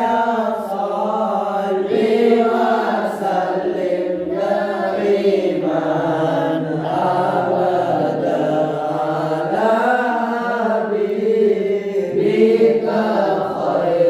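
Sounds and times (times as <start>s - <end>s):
boys chanting devotional song: 0.0s - 14.0s.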